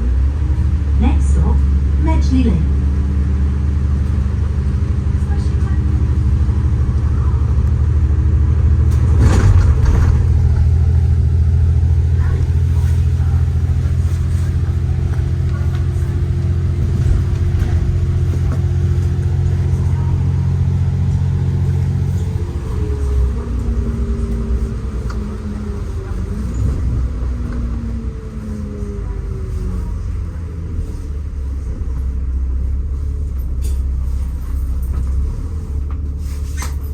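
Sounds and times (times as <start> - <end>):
bus engine drone: 0.0 - 36.9.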